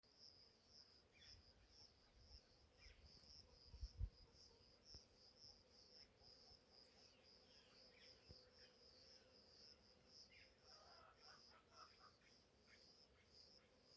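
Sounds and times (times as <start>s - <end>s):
cricket chirping: 0.1s - 13.9s.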